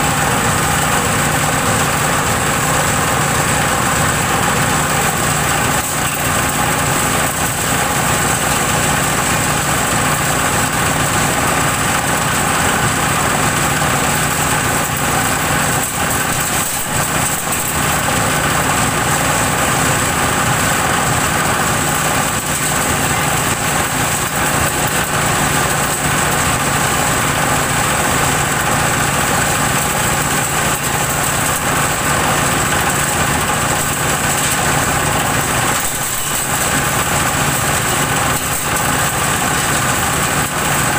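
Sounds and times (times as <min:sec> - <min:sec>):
waste chopper engine running: 0:00.0 - 0:40.9.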